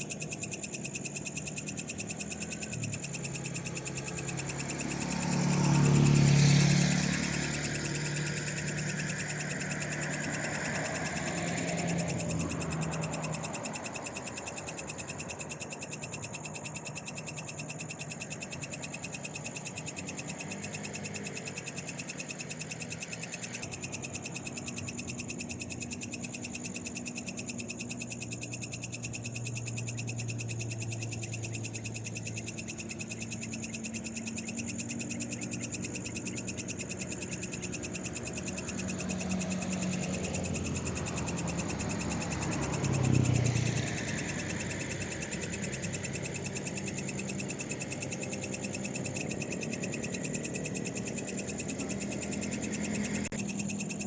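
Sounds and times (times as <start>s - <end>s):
frogs pulsing calls: 0.0s - 54.0s
high-pitched insect trilling: 0.0s - 54.0s.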